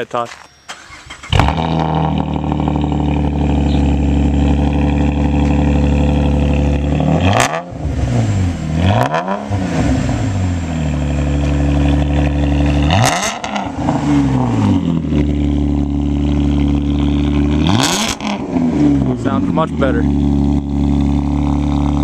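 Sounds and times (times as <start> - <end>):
car engine idling and revving: 0.7 - 22.0
loud exhaust note: 1.3 - 22.0.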